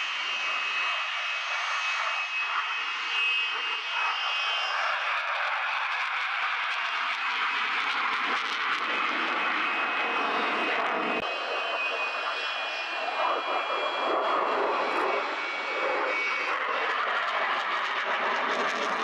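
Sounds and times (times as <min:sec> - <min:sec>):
jet engine roar with high whine: 0:00.0 - 0:19.0.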